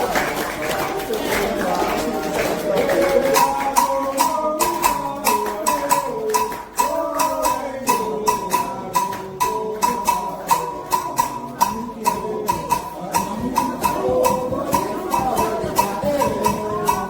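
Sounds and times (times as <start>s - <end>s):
person singing a melody: 0.0s - 17.0s
rhythmic bell-like percussion: 0.0s - 17.0s.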